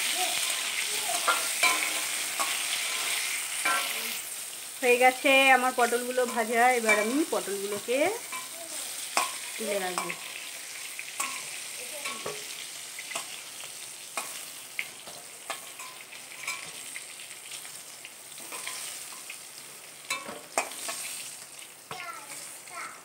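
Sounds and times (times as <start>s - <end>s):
vegetable pieces sizzling in oil: 0.0s - 23.0s
metal spatula scraping a pan: 0.4s - 4.4s, 5.8s - 17.6s, 18.3s - 21.4s.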